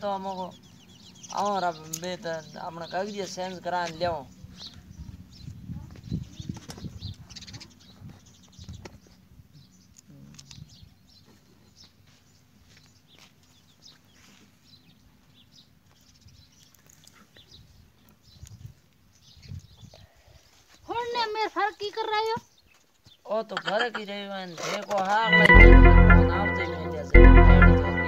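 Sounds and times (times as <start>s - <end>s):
small birds chirping: 0.0s - 25.1s.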